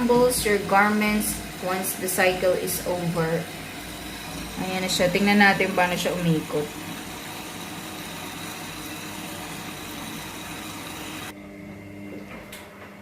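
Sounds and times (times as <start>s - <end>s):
water hissing into washing machine: 0.0s - 11.3s.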